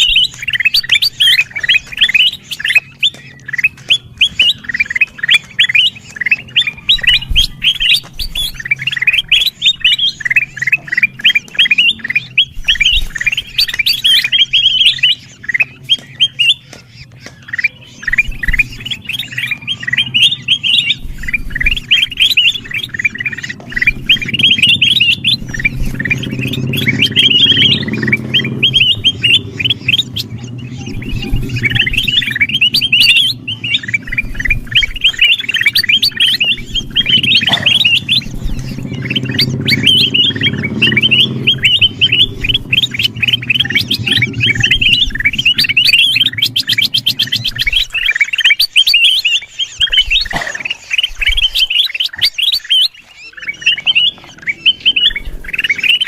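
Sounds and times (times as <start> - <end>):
birds chirping: 0.0 - 56.0
low steady hum: 0.0 - 56.0.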